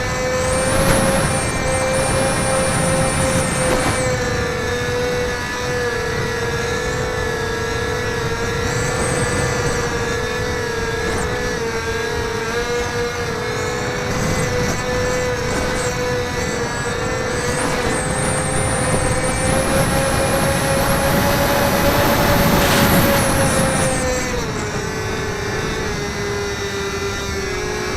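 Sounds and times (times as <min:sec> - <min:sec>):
model plane motor humming: 0:00.0 - 0:27.9
wind rumbling on microphone: 0:00.0 - 0:27.9.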